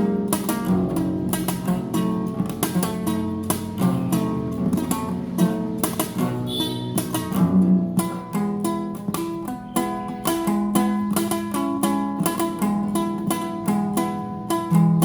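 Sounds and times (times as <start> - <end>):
classical guitar plucked notes: 0.0 - 15.0.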